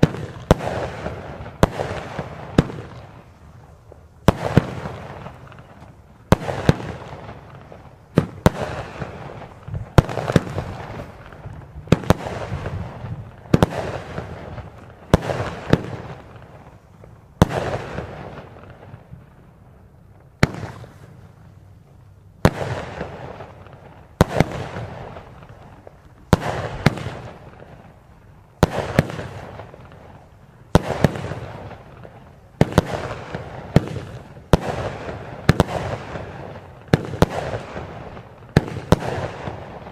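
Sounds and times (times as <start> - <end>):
firework crackle: 0.0 - 39.9
firework shots: 0.0 - 39.9.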